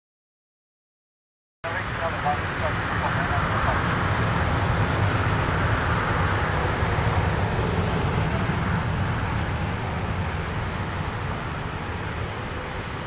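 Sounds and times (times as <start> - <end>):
jet engines low rumble: 1.6 - 13.0
jet engine hiss: 1.8 - 13.0.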